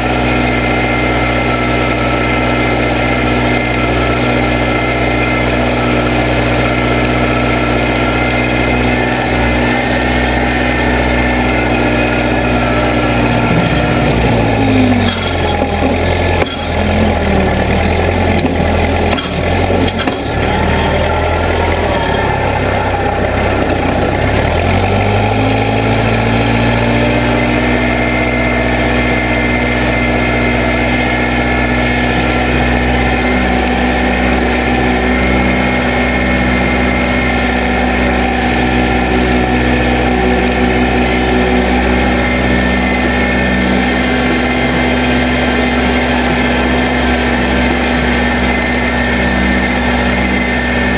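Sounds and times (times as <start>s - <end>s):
backhoe engine running: 0.0s - 50.9s
engine knocks: 0.0s - 50.9s.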